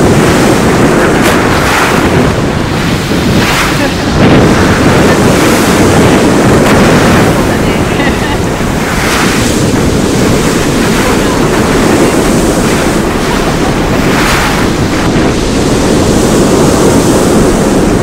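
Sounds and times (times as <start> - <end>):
waves on pebble beach: 0.0 - 18.0
wind buffeting microphone: 0.0 - 18.0.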